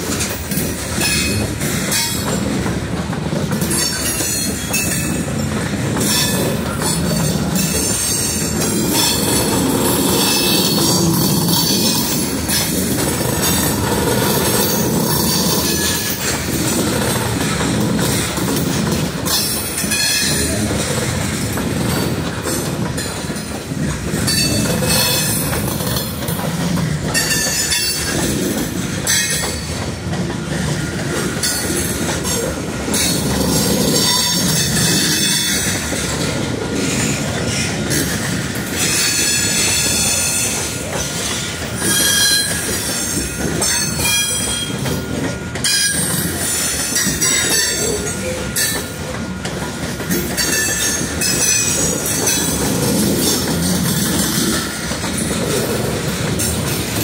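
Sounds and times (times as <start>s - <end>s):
train wheels clattering on rail: 0.0s - 57.0s.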